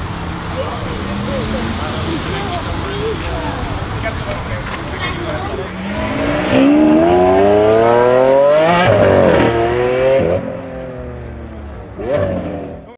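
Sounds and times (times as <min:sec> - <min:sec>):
car engine accelerating: 0:00.3 - 0:12.8.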